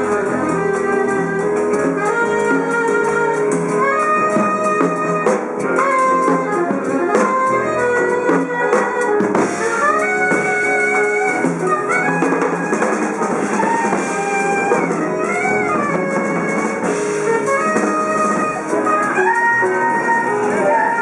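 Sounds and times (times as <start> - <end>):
alto saxophone solo: 0.0 - 21.0
drum kit: 0.0 - 21.0
jazz rhythm section: 0.0 - 21.0.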